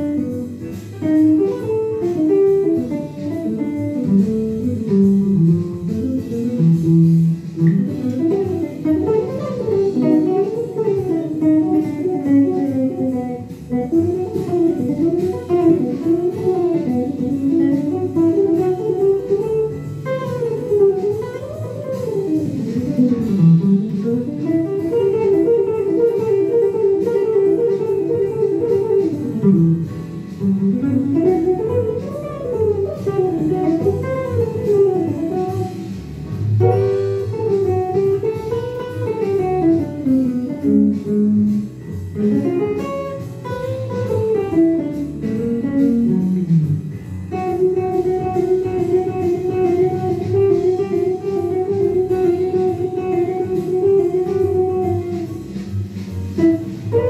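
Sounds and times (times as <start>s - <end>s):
electric guitar jazz solo: 0.0s - 57.0s.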